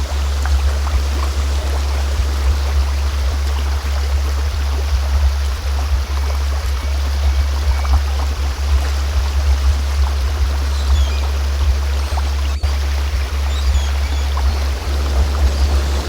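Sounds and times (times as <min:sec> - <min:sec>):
flowing stream: 0:00.0 - 0:16.0
low hum tone: 0:00.0 - 0:16.0.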